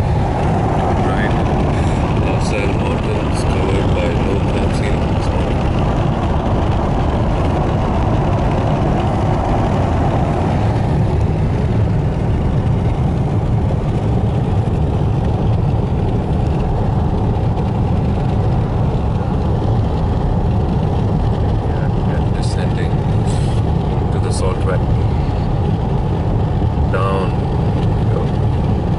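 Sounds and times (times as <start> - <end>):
car driving interior rumble: 0.0 - 28.9.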